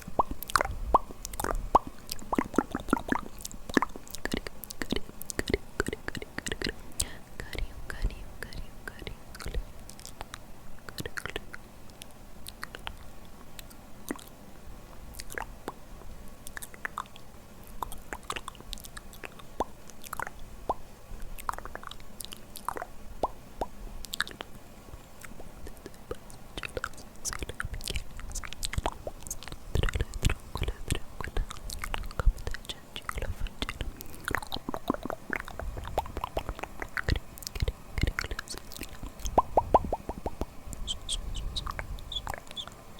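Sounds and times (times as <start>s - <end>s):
wet mouth clicks and smacks: 0.0s - 6.8s, 8.4s - 14.3s, 16.4s - 24.6s, 25.2s - 42.8s.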